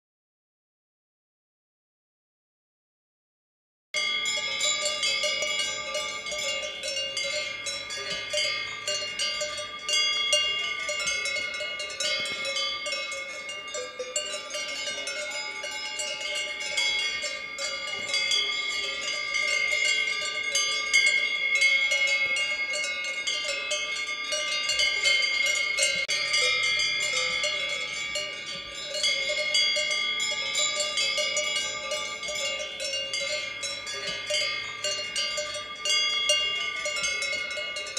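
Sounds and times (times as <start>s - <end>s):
cowbells clanging: 4.0s - 37.9s.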